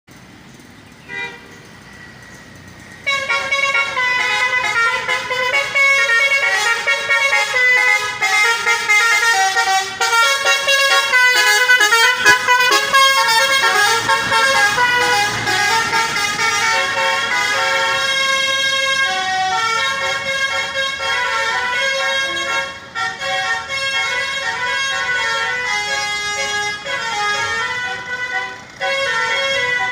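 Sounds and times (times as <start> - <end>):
multi-tone musical air horn: 3.0 - 29.9.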